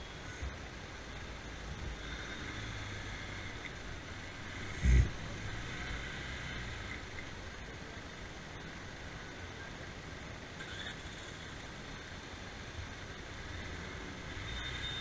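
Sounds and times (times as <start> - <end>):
motorbike running on road: 0.0 - 9.4, 10.6 - 15.0.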